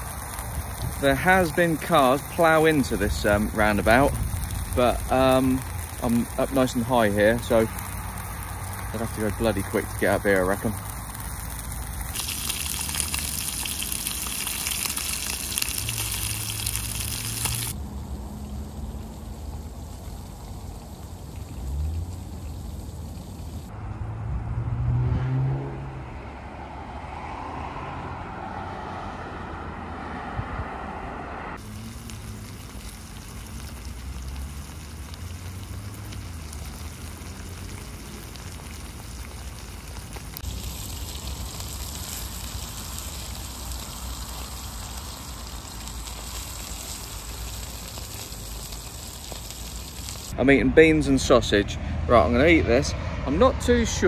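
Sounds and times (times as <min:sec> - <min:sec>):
tyres hissing on road: 0:00.0 - 0:23.8, 0:26.7 - 0:54.0
vehicle passing: 0:00.0 - 0:54.0.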